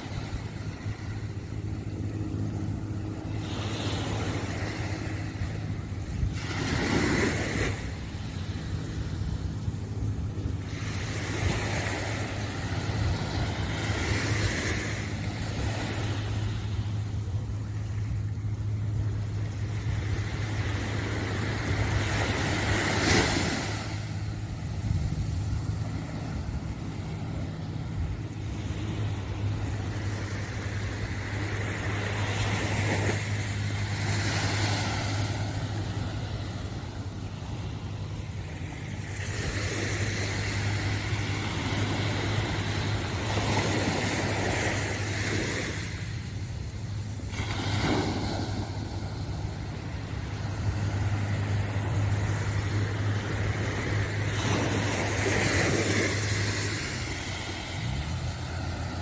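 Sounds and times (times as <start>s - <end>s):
small waves washing up a beach: 0.0s - 59.0s
steady low hum: 0.0s - 59.0s.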